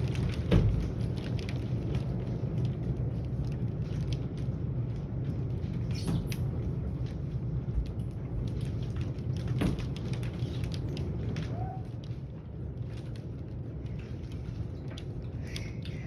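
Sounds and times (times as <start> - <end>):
rain falling steadily: 0.0 - 16.0.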